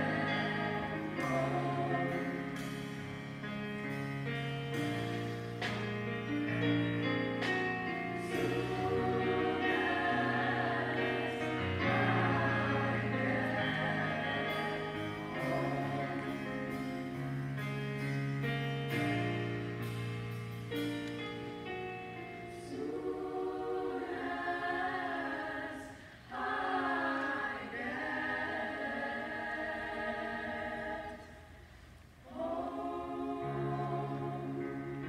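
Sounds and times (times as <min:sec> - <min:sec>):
gospel choir singing: 0:00.0 - 0:03.9, 0:04.7 - 0:18.1, 0:22.4 - 0:35.0
keyboard accompaniment: 0:00.0 - 0:25.7, 0:32.4 - 0:35.0.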